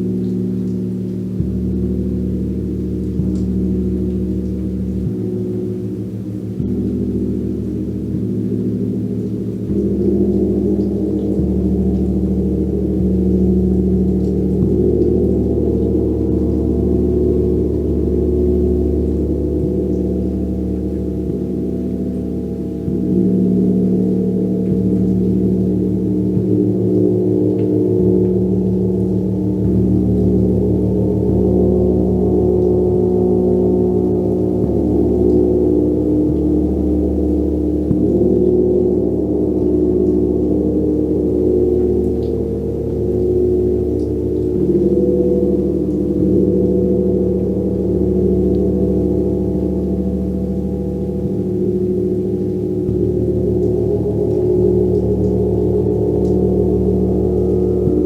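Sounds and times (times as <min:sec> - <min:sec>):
gong struck with soft mallet: 0:00.0 - 0:58.0.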